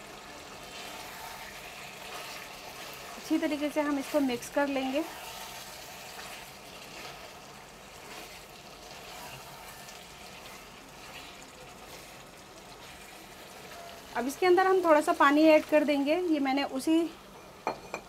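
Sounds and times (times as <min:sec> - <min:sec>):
curry sizzling in a pan: 0:00.0 - 0:18.0
wooden spatula stirring: 0:00.5 - 0:16.1.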